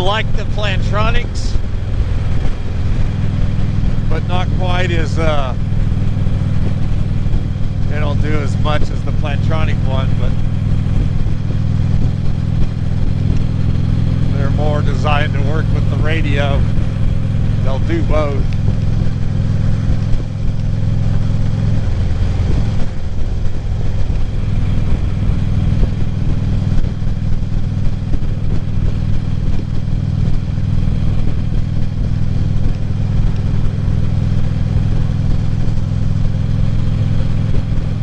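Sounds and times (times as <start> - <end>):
truck engine and road noise: 0.0 - 38.0.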